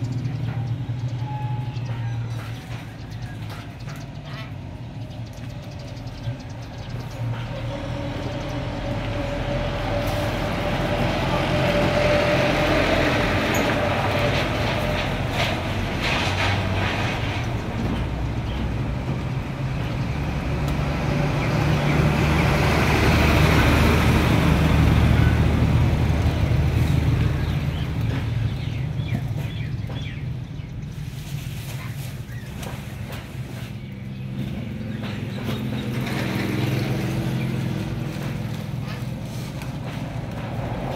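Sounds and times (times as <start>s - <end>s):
low rumble of passing traffic: 0.0s - 40.9s.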